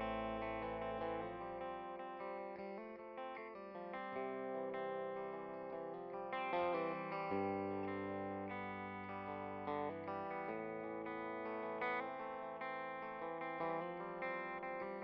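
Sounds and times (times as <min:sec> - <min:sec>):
distorted guitar instrumental: 0:00.0 - 0:15.0.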